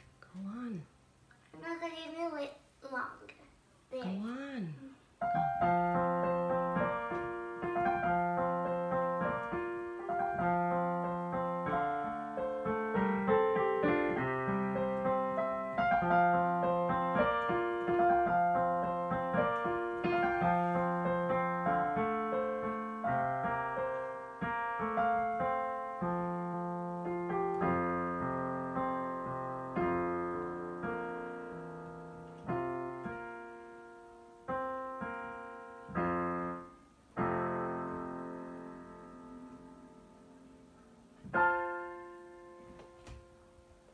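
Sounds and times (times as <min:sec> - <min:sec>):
digital piano solo piece: 0:05.1 - 0:43.9.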